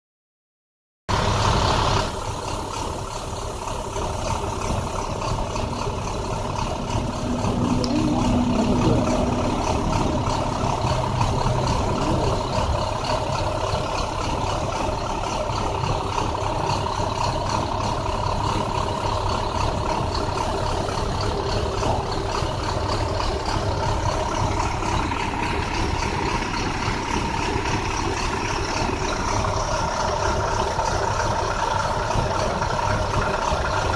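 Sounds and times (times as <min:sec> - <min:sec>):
bus engine misfiring: 0:01.1 - 0:33.9.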